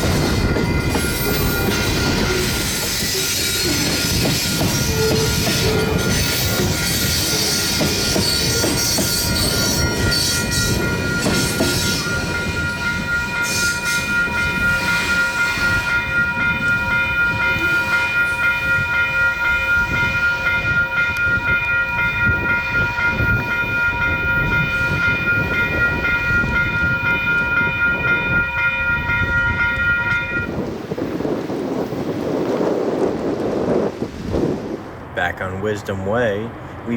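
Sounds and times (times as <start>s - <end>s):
freight train rumbling past: 0.0s - 36.9s.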